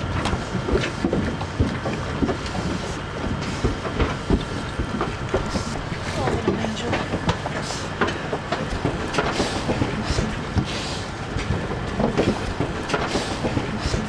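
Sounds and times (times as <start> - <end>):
pigs knocking in metal trailer: 0.1 - 14.0.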